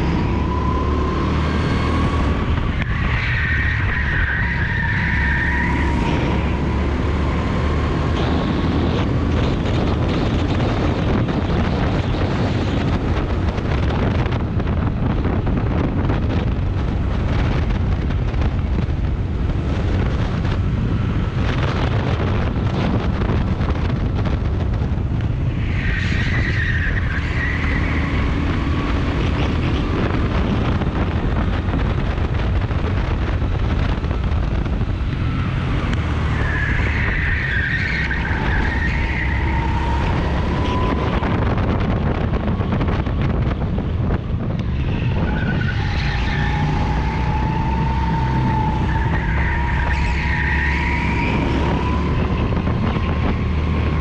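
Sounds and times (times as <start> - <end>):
wind buffeting camera: 0.0 - 54.0.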